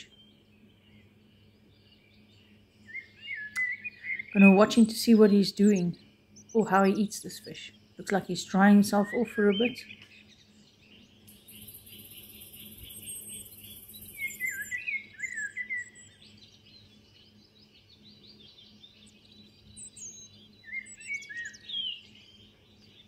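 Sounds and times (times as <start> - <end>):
wild birds chirping: 0.0 - 23.0.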